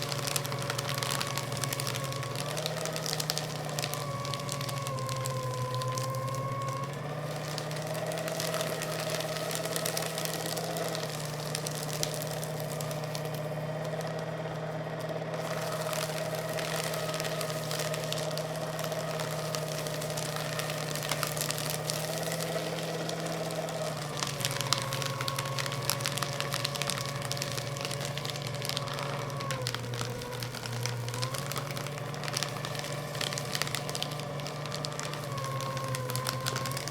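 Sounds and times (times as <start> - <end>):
paper shredder motor humming: 0.0 - 36.9
shredder cutters crunching paper: 0.0 - 36.9.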